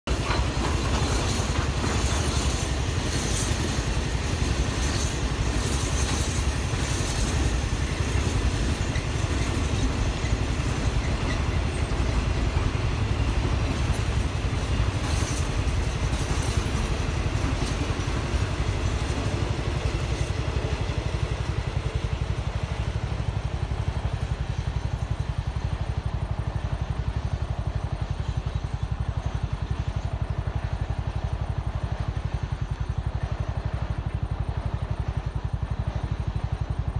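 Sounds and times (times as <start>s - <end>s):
freight train rumbling past: 0.0s - 36.9s
rail noise hiss: 0.1s - 36.9s.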